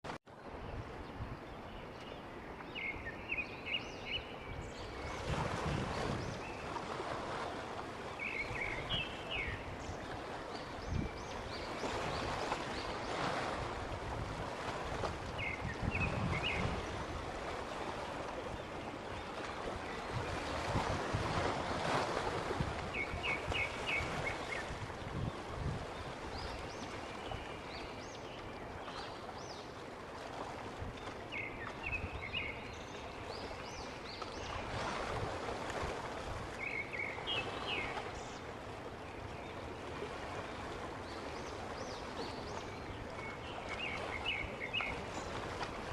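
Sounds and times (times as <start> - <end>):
sea waves breaking: 0.0 - 45.9
wind on the microphone: 0.4 - 29.6, 30.2 - 45.9.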